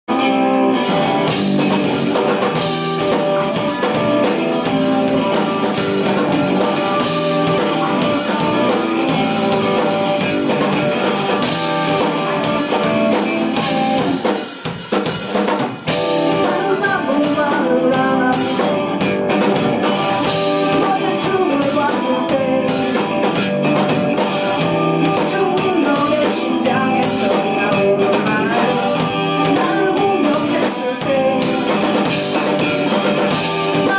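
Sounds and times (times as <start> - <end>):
electric bass: 0.1 - 14.5, 15.1 - 33.9
distorted electric guitars: 0.1 - 33.9
drum kit: 0.1 - 33.9.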